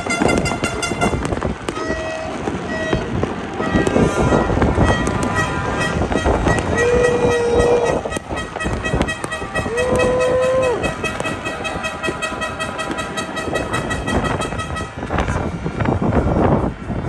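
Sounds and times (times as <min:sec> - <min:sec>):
horn sounding: 0:00.0 - 0:15.7
fireworks banging and crackling: 0:00.0 - 0:17.0
low rumble: 0:00.0 - 0:17.0.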